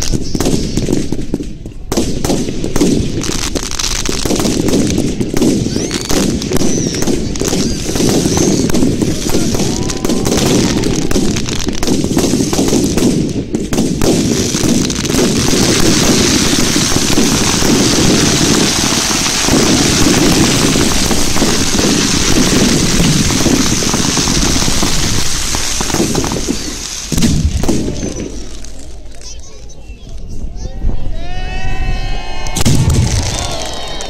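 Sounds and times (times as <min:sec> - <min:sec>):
fireworks bangs and crackling: 0:00.0 - 0:31.0, 0:32.5 - 0:34.0.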